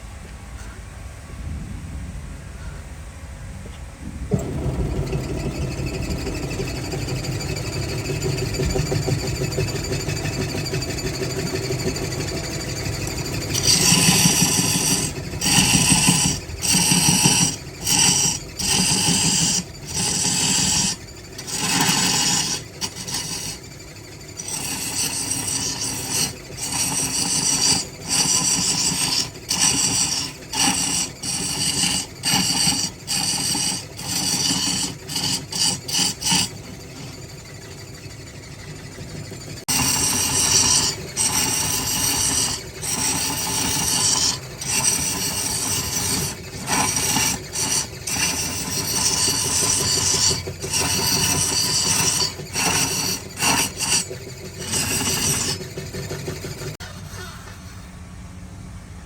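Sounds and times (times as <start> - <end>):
tool rasping against spinning wood: 4.3 - 57.4
wood lathe humming: 4.3 - 57.5.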